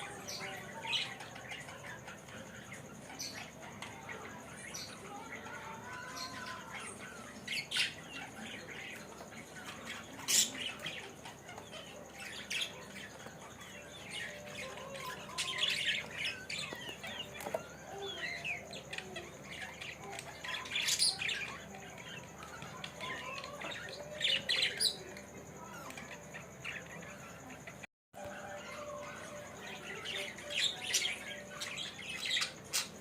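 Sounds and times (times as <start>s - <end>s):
budgerigars chattering: 0.0s - 27.8s.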